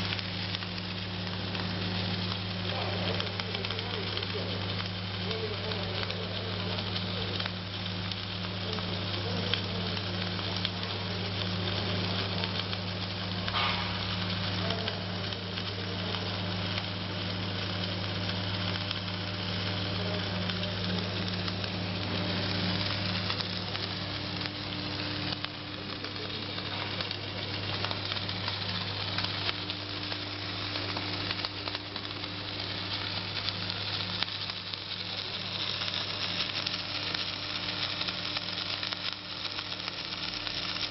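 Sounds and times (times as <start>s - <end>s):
low electrical hum: 0.0s - 40.9s
welding arc crackling: 0.0s - 40.9s.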